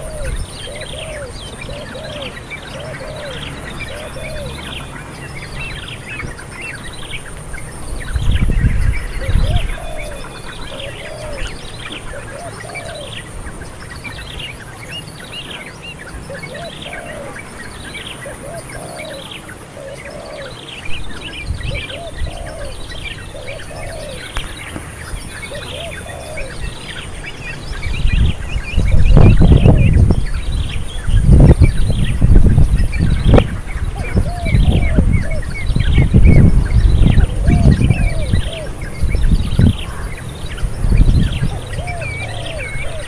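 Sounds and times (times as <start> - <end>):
low arched bird call: 0.0 - 43.0.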